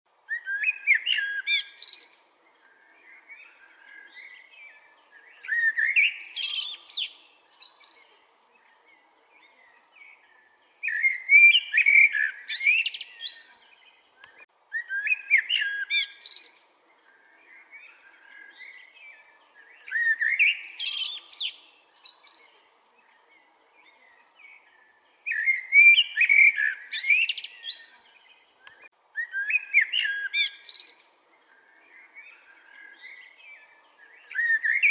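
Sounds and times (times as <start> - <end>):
songbird twittering song: 0.1 - 34.9
faint bird twittering: 0.3 - 34.9.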